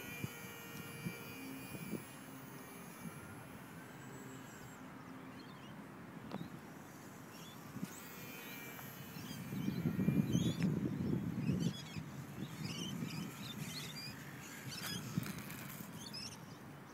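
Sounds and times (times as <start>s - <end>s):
distant rc plane motor whine: 0.0s - 16.9s
birds chirping: 2.6s - 16.9s.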